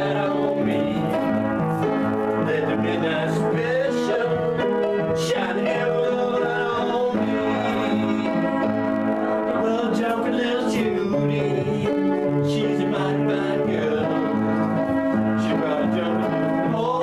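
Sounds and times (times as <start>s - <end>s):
electronic keyboard chords: 0.0s - 17.0s
man singing: 0.0s - 17.0s.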